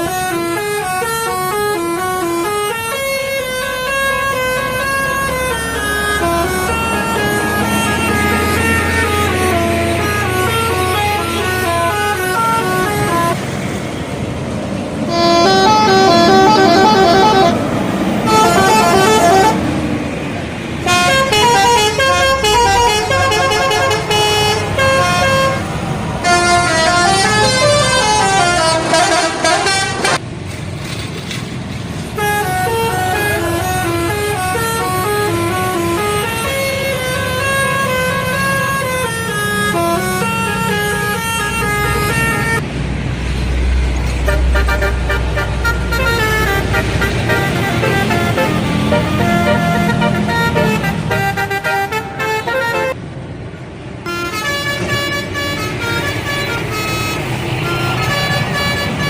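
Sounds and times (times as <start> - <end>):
musical air horns playing melodies: 0.0 - 13.4, 15.1 - 19.8, 20.8 - 30.2, 32.2 - 42.6, 44.2 - 53.0, 54.1 - 59.0
bus engine rumbling: 0.0 - 59.0.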